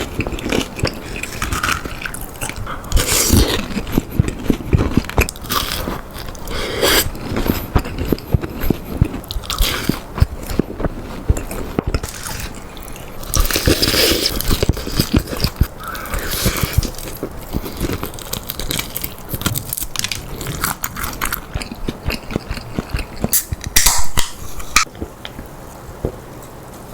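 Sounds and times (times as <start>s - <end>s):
chewing: 0.0s - 23.8s
crunching fried chicken: 0.0s - 24.3s.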